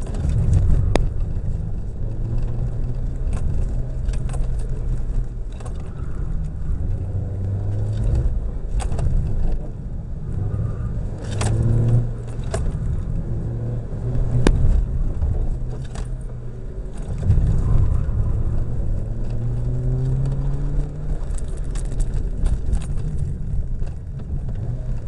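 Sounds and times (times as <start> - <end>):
car engine revving: 0.0 - 25.0
clicks and rattles inside car: 0.0 - 25.0.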